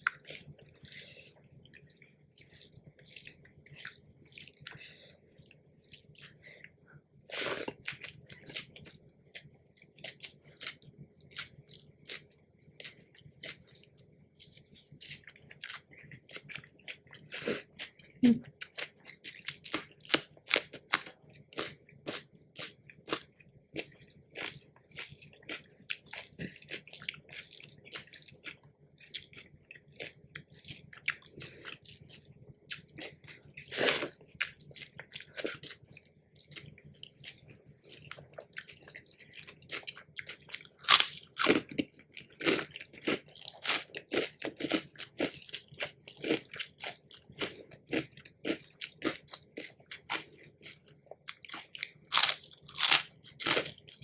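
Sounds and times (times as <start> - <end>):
chewing crisp food: 0.0 - 54.0.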